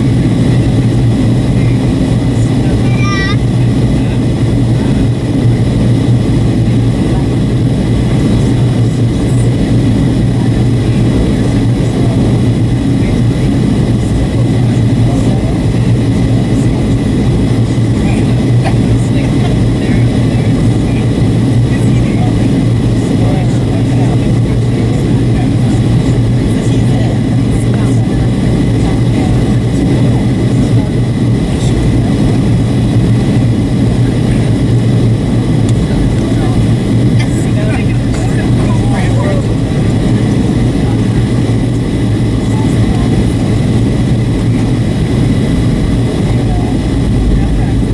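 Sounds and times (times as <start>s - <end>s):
airplane cabin drone: 0.0s - 47.9s
faint high whine: 0.0s - 47.9s.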